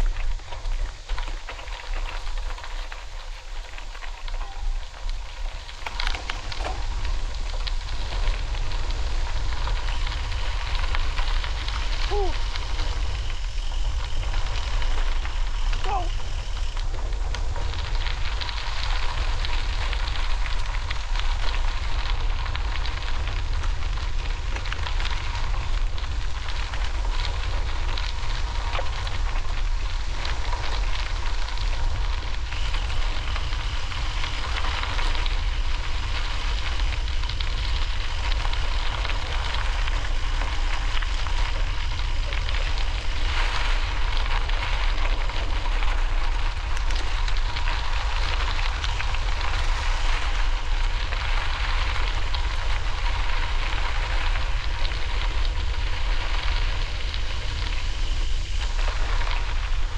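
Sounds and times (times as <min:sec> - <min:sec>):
bicycle tyres rolling on rough trail: 0:00.0 - 0:59.9
wind rumbling on microphone: 0:00.0 - 0:59.9.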